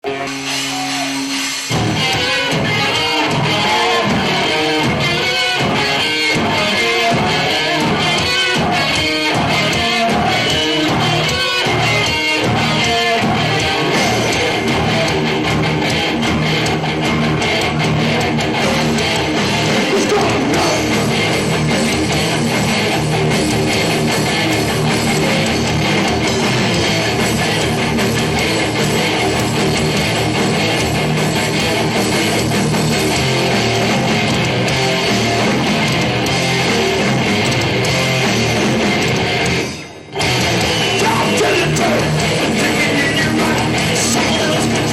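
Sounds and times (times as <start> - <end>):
bass and drums: 0.0 - 44.9
distorted electric guitar riffing: 0.0 - 44.9.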